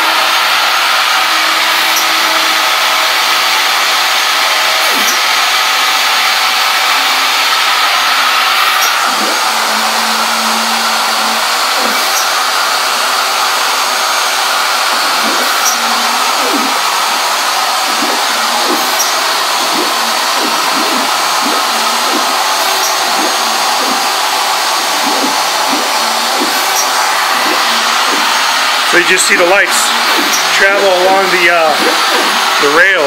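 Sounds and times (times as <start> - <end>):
machine whirring: 0.0 - 33.0
stepper motors whining: 0.0 - 33.0.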